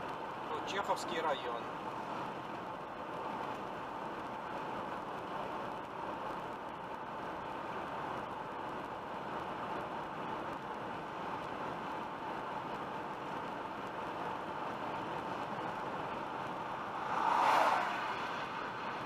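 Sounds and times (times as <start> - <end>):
car road and tyre noise: 0.0 - 19.0.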